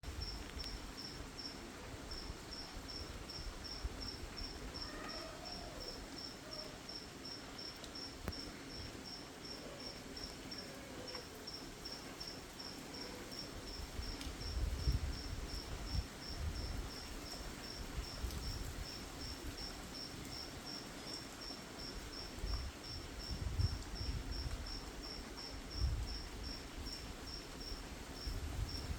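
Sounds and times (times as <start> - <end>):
light rain hiss: 0.0 - 28.9
insect chirping: 0.1 - 28.9.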